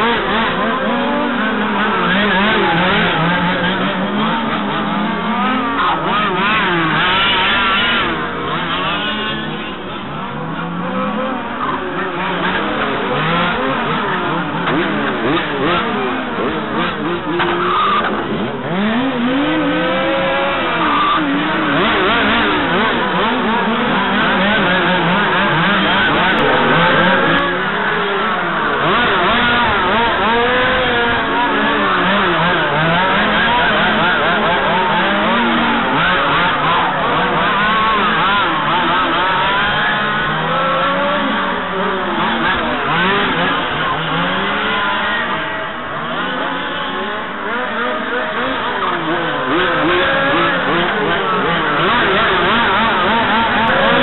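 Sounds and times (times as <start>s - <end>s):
rc car engines racing: 0.0s - 54.0s.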